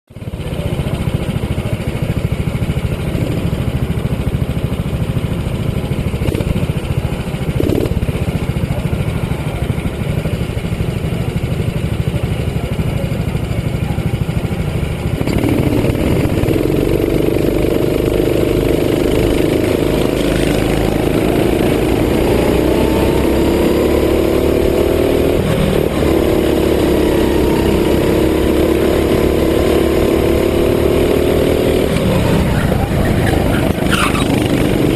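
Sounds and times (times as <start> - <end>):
go-kart engine running: 0.1 - 34.9.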